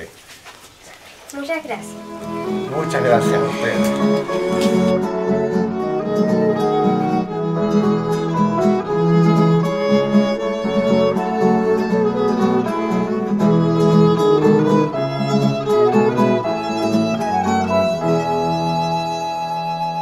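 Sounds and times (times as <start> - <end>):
violin melody: 1.7 - 20.0
plucked guitar: 1.8 - 20.0.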